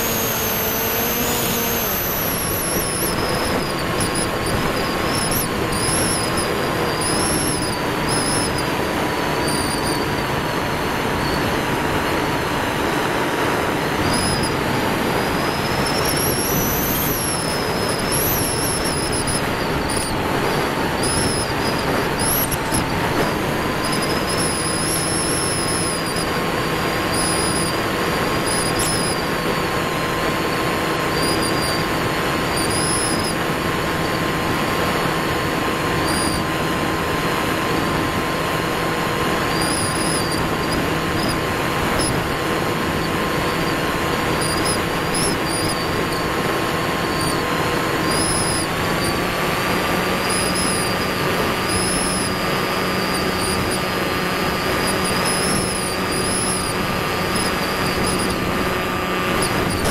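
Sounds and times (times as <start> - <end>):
electric motor and propeller hum: 0.0 - 59.9.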